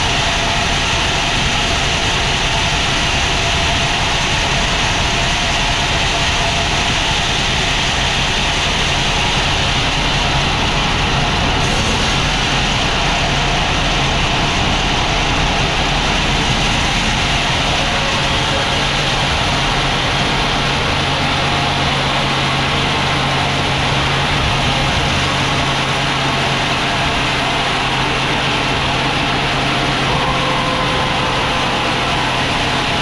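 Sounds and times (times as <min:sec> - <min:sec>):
sawmill machinery drone: 0:00.0 - 0:33.0.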